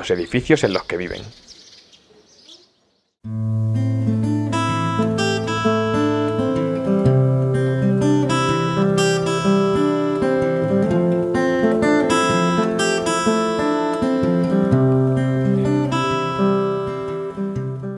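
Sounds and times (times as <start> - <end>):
acoustic guitar music: 3.2 - 17.9.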